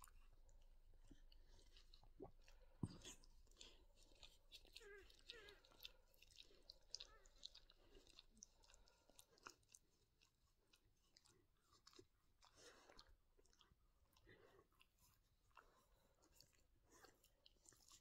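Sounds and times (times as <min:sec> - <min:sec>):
dog licking and chewing: 0:00.0 - 0:18.0.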